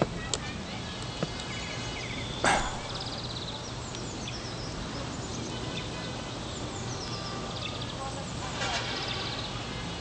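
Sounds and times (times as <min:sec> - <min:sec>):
small birds chirping and trilling: 0:00.0 - 0:10.0.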